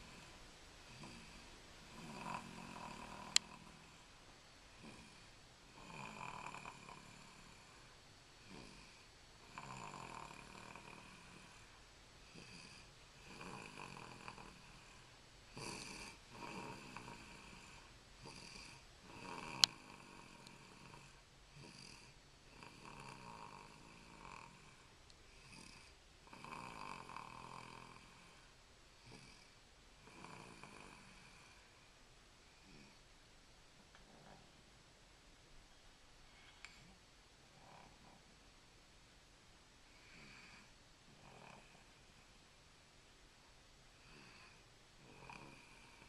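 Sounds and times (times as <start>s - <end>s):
baby snoring softly: 0.0s - 31.9s, 32.6s - 33.0s, 34.0s - 34.6s, 36.3s - 38.4s, 39.9s - 42.2s, 44.0s - 46.0s.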